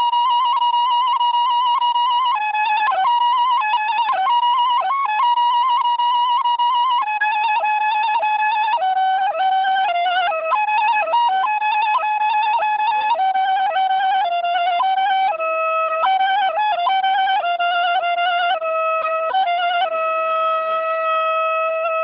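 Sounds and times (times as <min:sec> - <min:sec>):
solo woodwind slow melody: 0:00.0 - 0:22.0.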